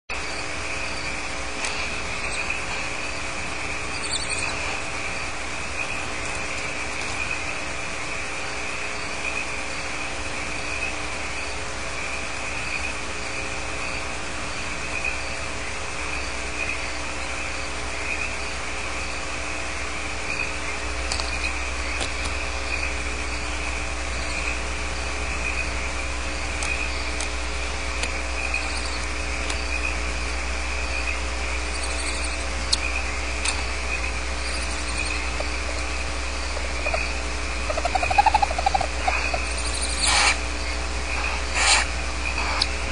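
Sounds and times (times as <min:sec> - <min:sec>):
crickets chirping: 0:00.1 - 0:42.9
low electrical hum: 0:00.1 - 0:42.9.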